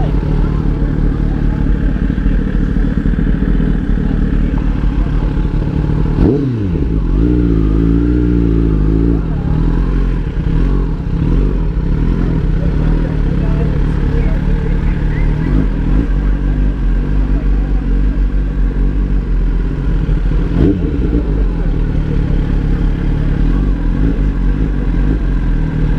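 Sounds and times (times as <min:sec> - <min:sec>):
motorcycle engine revving: 0:00.0 - 0:25.9
motorcycle engines idling: 0:00.0 - 0:25.9.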